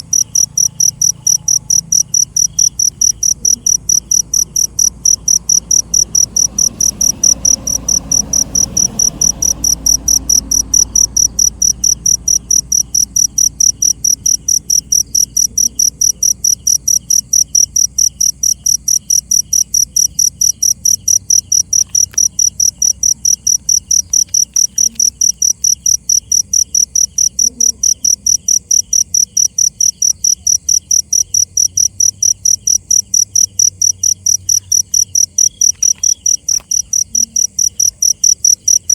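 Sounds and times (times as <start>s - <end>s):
cricket chirping: 0.0s - 38.9s
faint lower pulsing insect call: 0.0s - 38.9s.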